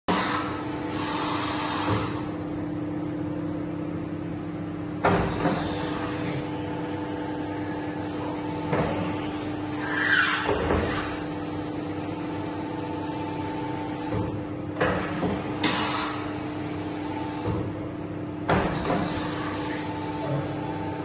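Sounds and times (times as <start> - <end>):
machine humming: 0.1 - 21.0.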